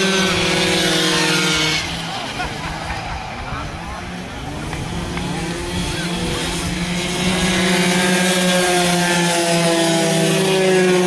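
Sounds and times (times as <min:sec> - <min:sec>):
racing motorcycle engines buzzing: 0:00.0 - 0:11.0.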